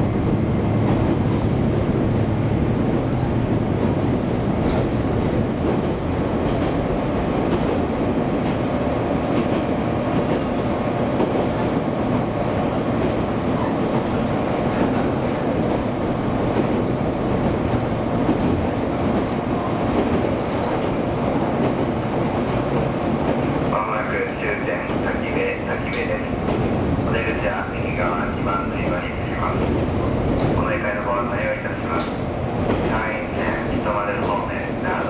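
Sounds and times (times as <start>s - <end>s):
railcar engine and wheels rumbling: 0.0s - 35.0s.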